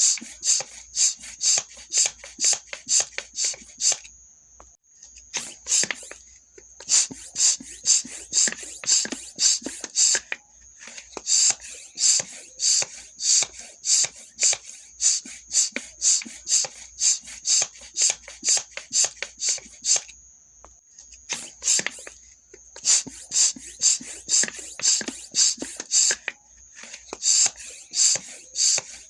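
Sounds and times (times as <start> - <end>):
bicycle pump strokes: 0.0 - 4.1, 5.3 - 20.2, 21.2 - 29.0.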